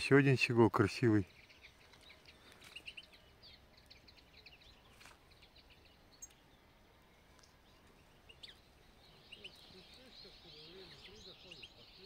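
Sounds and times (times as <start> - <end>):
songbirds twittering: 0.0 - 12.0.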